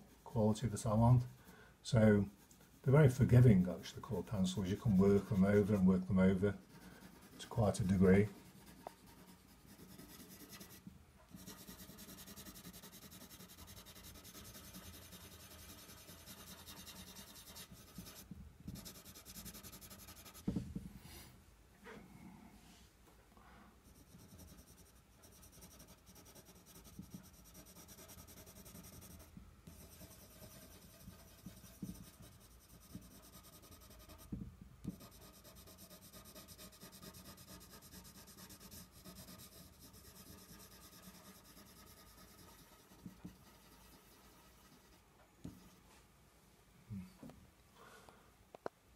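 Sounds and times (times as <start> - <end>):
pencil scratching on paper: 2.4 - 20.4, 23.8 - 45.8.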